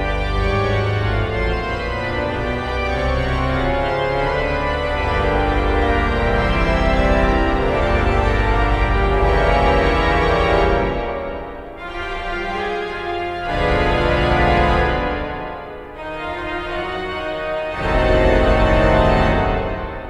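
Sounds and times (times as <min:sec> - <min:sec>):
pipe organ playing full chords: 0:00.0 - 0:20.0.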